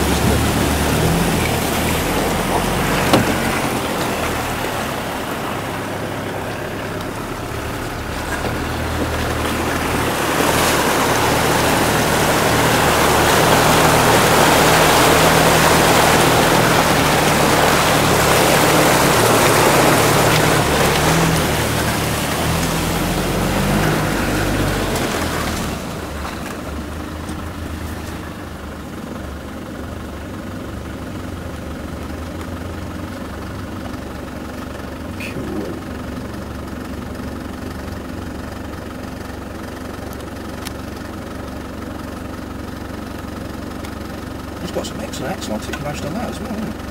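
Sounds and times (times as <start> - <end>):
vehicle engine labouring: 0.0 - 46.9
wheels splashing through muddy water: 0.0 - 46.9.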